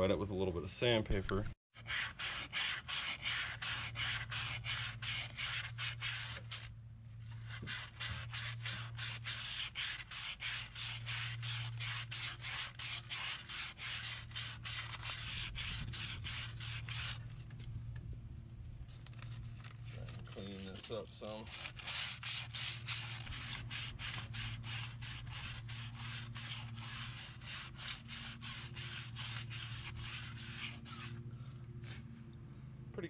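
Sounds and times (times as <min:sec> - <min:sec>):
sandpaper rubbing on metal: 0:01.8 - 0:17.5, 0:19.1 - 0:31.2.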